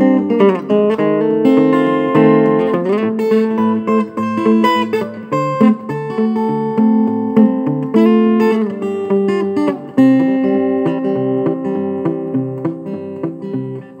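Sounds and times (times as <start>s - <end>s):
fingerpicked acoustic guitar: 0.0s - 14.0s.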